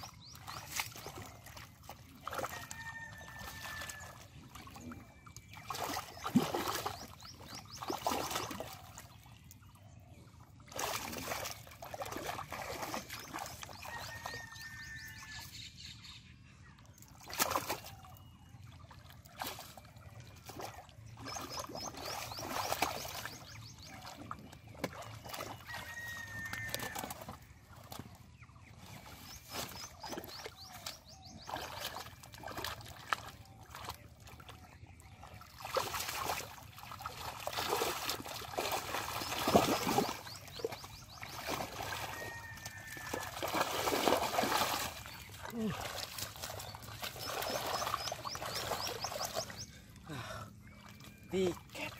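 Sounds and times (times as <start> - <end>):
hands squelching in mud: 0.0 - 9.1, 10.6 - 14.7, 17.2 - 18.2, 19.2 - 28.1, 28.8 - 51.8
water splashing: 0.0 - 9.5, 10.3 - 14.5, 17.1 - 28.2, 28.8 - 51.9.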